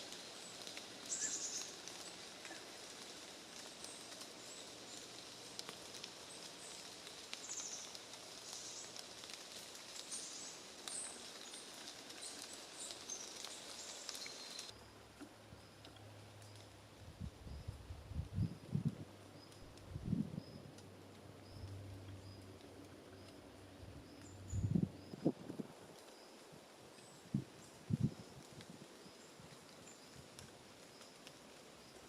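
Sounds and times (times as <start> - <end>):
steady background hiss: 0.0 - 32.0.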